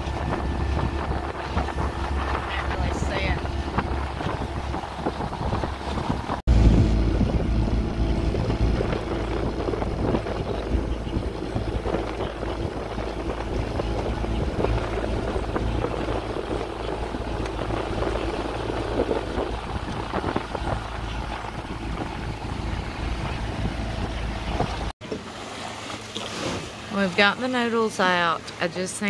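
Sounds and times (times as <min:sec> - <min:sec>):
wind buffeting microphone: 0:00.0 - 0:25.0
boat motor running: 0:00.0 - 0:29.0.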